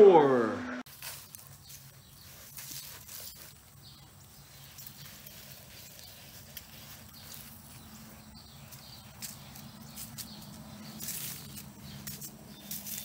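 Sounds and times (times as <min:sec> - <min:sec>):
dog digging in sandy dirt: 0:00.9 - 0:13.0.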